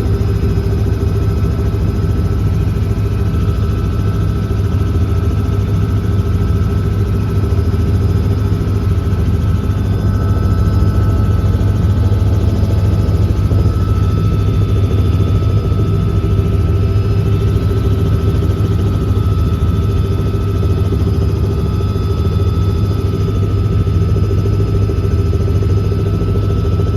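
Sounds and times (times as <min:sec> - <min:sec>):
helicopter engine and rotor drone: 0:00.0 - 0:26.9.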